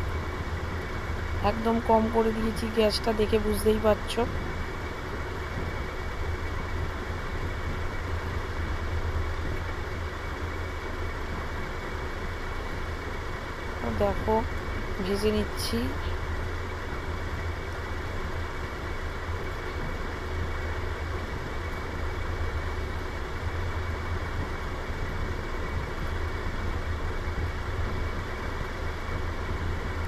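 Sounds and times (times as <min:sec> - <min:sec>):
constant low hum: 0:00.0 - 0:30.0.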